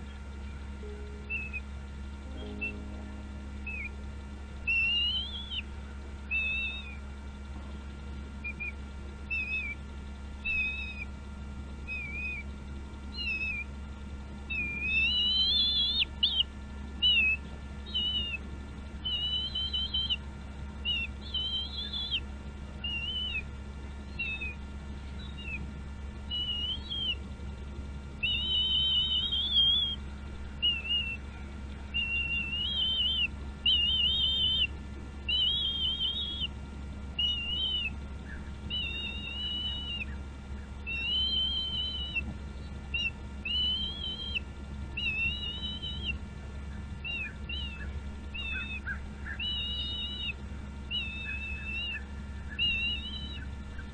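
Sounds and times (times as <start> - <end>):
eagle whistled calls: 0.0 - 7.2, 8.4 - 9.8, 10.4 - 11.1, 11.8 - 13.8, 14.4 - 25.6, 26.2 - 27.6, 28.2 - 53.9
steady low hum: 0.0 - 53.9.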